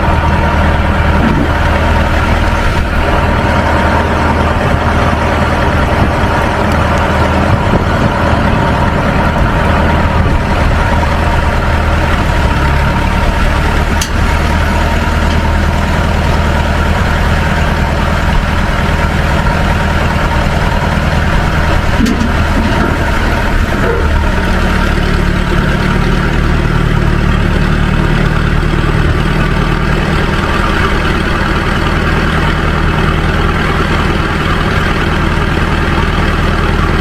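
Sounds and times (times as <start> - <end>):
tractor engine idling: 0.0 - 37.0.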